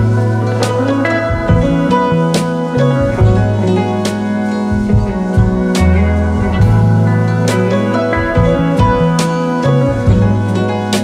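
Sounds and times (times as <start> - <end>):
guitar playing slow melody: 0.0 - 11.0.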